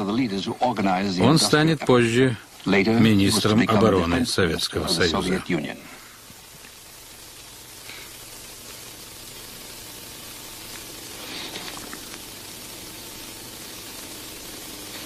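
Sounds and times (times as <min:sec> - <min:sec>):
old film soundtrack hiss: 0:00.0 - 0:15.0.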